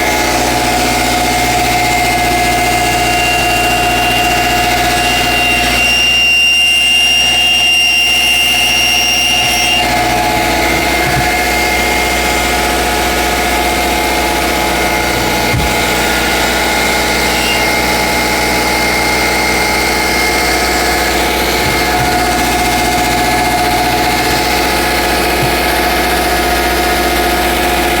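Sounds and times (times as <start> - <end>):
high whistle from alternator: 0.0 - 28.0.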